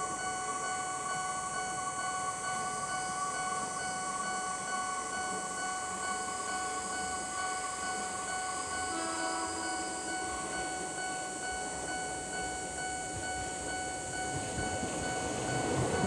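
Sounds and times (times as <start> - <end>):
level-crossing warning bell: 0.0 - 16.0.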